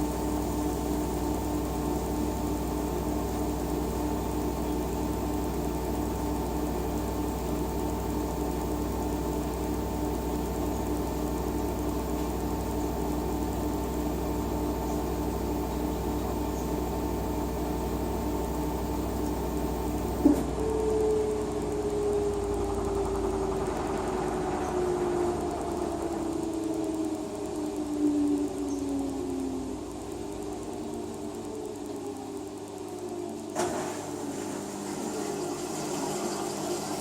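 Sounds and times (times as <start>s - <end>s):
washing machine motor hum: 0.0s - 37.0s.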